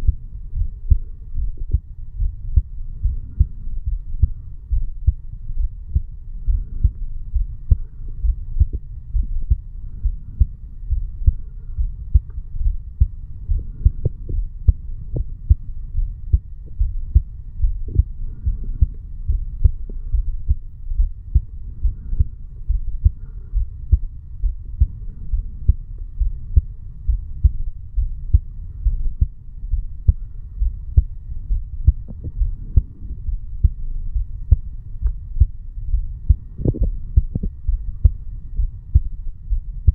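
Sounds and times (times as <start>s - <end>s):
heartbeat thuds: 0.0s - 39.9s
steady low hum: 0.0s - 39.9s.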